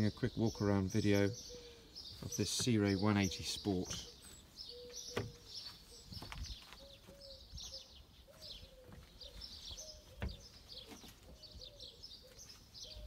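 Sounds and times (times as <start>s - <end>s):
small birds chirping: 0.0s - 13.0s
lower bird call: 0.5s - 13.0s.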